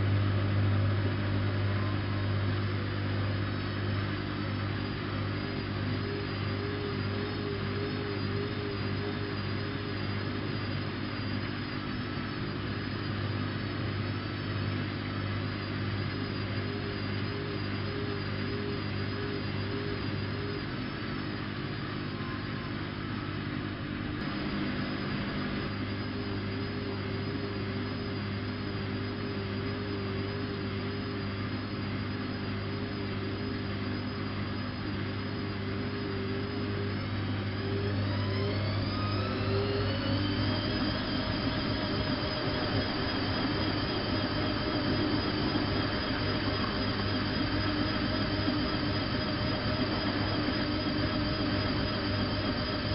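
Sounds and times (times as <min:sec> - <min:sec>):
washing machine humming: 0:00.0 - 0:52.9.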